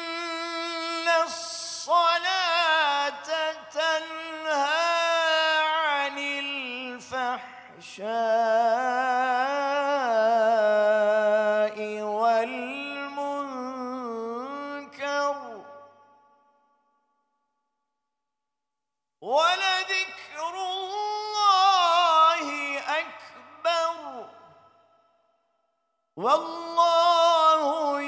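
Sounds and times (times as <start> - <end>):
man chanting melodically: 0.0 - 16.0, 19.2 - 24.8, 26.2 - 28.0.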